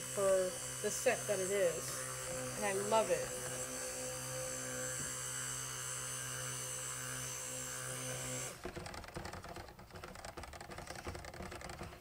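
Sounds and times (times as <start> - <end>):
stick blender running: 0.0 - 12.0.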